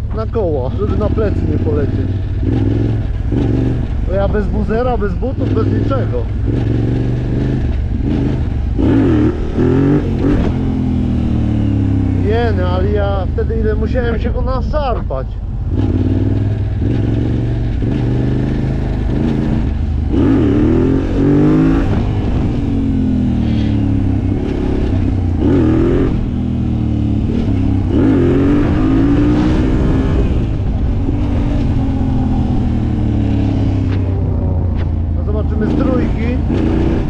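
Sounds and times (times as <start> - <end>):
quad engine accelerating through gears: 0.0 - 37.0.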